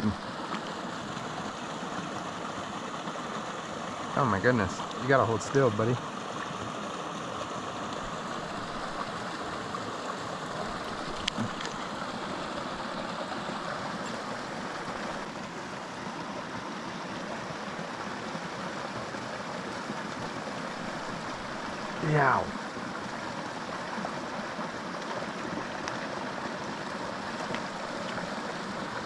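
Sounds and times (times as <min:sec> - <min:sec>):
creek flowing: 0:00.0 - 0:29.0.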